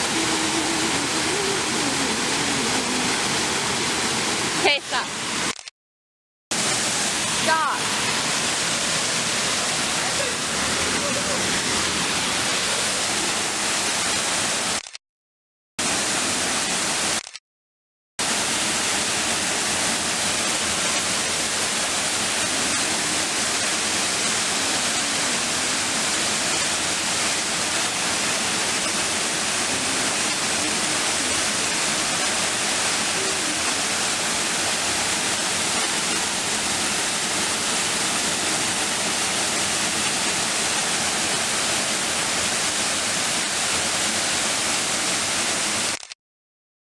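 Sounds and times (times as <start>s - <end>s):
waterfall rushing: 0.0s - 5.6s, 6.5s - 14.9s, 15.8s - 17.3s, 18.2s - 46.0s.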